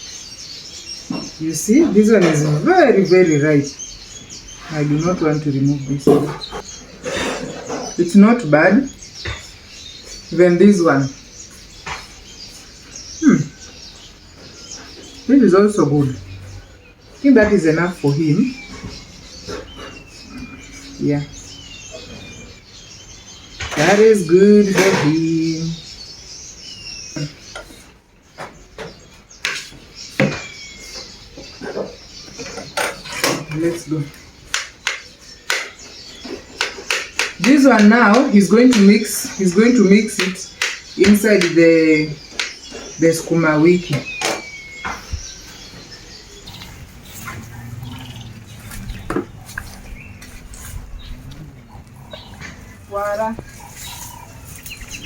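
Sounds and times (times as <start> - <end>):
bird chirp: 0.0 - 55.0.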